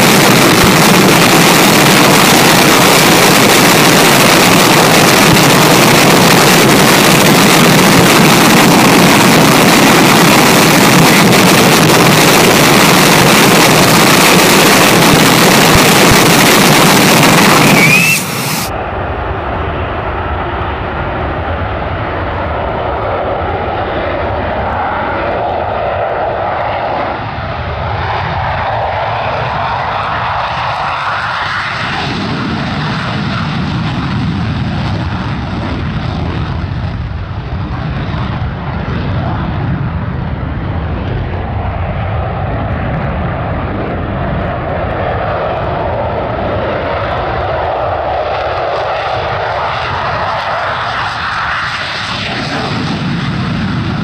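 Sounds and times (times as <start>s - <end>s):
deep rumble: 0.0s - 54.0s
jet engine afterburner roar: 0.0s - 54.0s.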